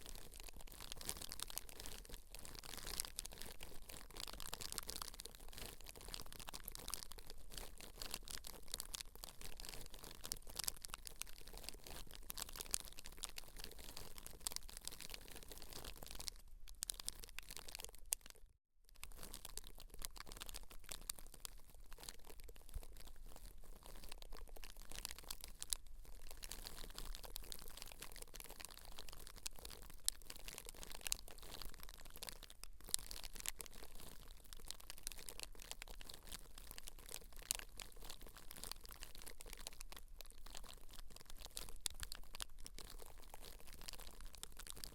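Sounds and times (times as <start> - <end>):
soft crackling and scratching of hair: 0.0 - 18.4, 19.0 - 44.9.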